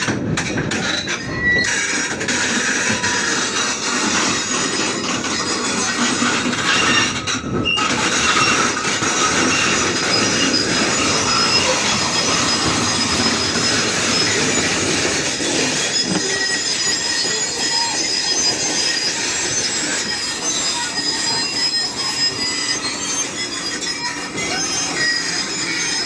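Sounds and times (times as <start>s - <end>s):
excavator tracks squealing grinding: 0.0s - 26.0s
high metallic squeaks: 0.5s - 26.0s.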